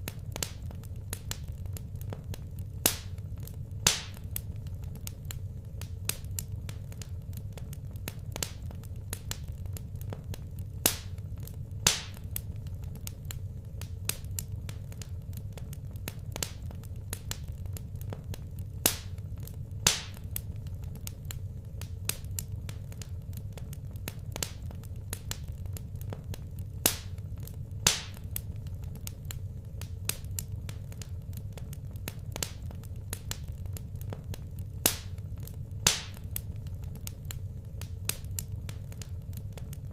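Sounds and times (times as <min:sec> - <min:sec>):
sharp fire pops: 0:00.0 - 0:39.9
steady low hum: 0:00.0 - 0:39.9
wood fire crackling: 0:00.0 - 0:39.9.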